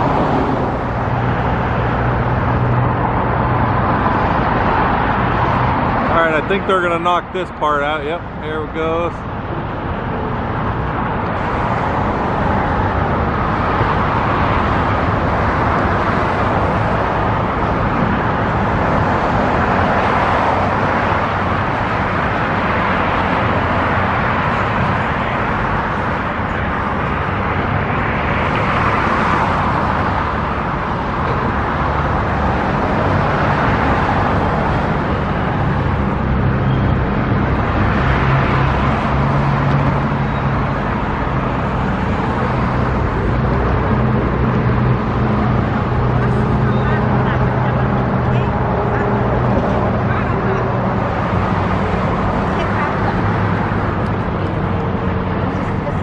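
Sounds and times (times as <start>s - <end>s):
cars passing: 0.0s - 56.0s
heavy vehicle engine hum: 0.0s - 56.0s.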